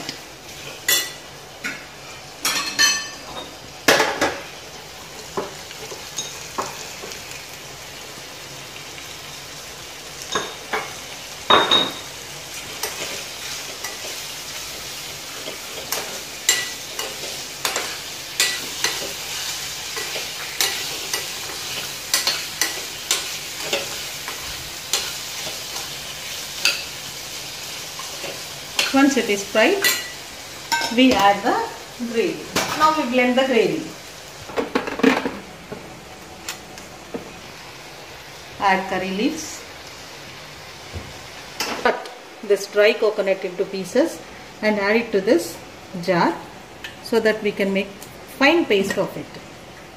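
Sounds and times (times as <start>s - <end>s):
food sizzling in a pan: 0.0s - 49.9s.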